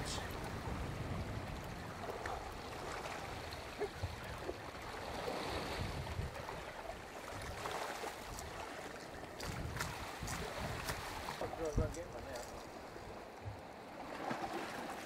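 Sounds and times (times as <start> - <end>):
sea water washing against rocks: 0.0 - 13.2, 14.0 - 15.0.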